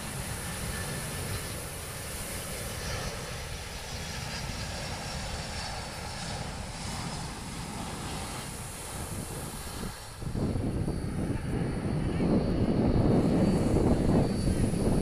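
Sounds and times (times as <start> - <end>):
jet airliner flying low overhead: 0.0 - 15.0.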